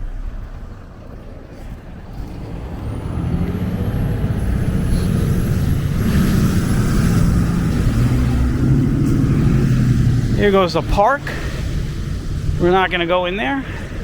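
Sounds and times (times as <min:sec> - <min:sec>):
heavy vehicle engine: 0:00.0 - 0:14.0.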